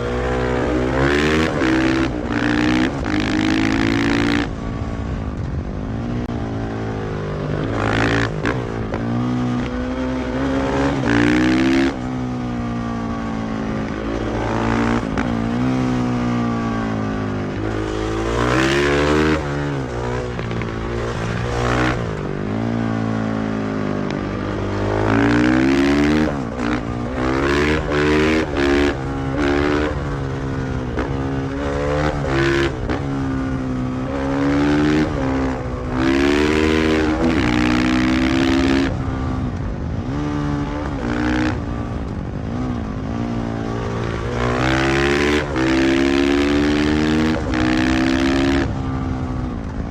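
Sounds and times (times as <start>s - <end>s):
motorcycle engine revving through gears: 0.0s - 49.9s.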